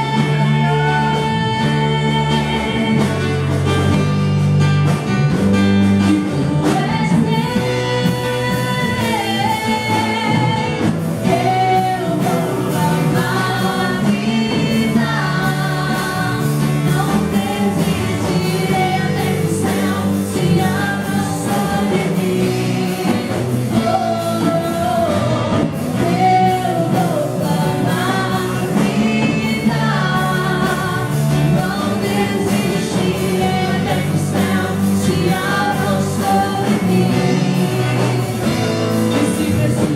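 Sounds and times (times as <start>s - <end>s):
person singing: 0.0s - 3.4s, 6.0s - 39.9s
band playing: 0.0s - 39.9s.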